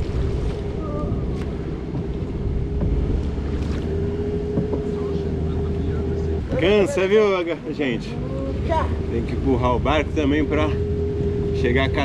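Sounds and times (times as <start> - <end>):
boat motor running: 0.0 - 12.0
wind buffeting microphone: 0.0 - 12.0.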